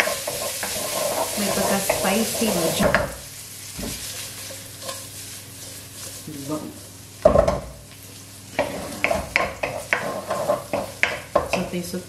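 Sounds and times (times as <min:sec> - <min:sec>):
wooden spoon scraping a pan: 0:00.0 - 0:06.6, 0:08.5 - 0:11.7
sausage sizzling in oil: 0:00.0 - 0:12.0.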